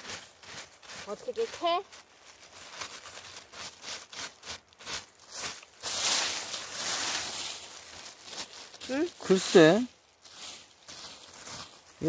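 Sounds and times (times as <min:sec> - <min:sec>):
hand brushing soil and leaves: 0:00.0 - 0:12.0.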